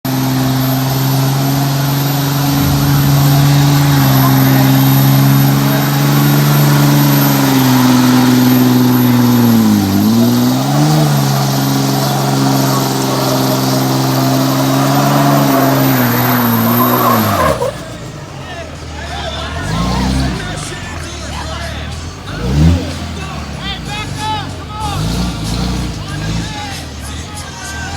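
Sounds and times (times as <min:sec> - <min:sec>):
diesel engine revving high: 0:00.0 - 0:27.9
tyres spinning hiss: 0:00.5 - 0:27.9.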